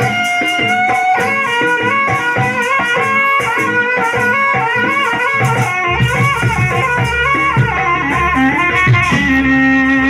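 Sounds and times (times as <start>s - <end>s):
amplified folk music: 0.0s - 10.0s
drum strokes: 0.0s - 10.0s.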